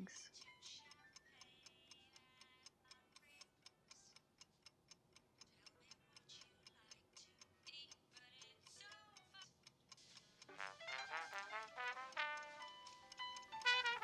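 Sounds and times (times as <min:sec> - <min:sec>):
clock ticking: 0:00.0 - 0:14.0.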